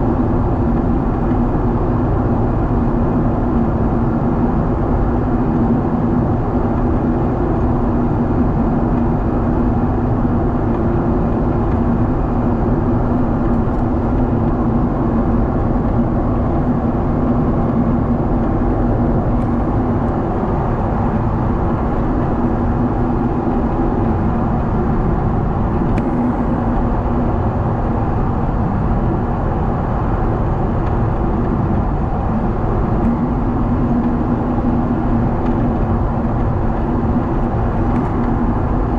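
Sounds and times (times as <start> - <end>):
jet engines droning: 0.0 - 38.9
steady low hum: 0.0 - 38.9.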